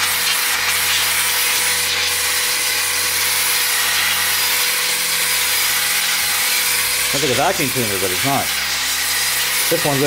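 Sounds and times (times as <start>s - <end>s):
electric air blower whirring: 0.0s - 10.0s.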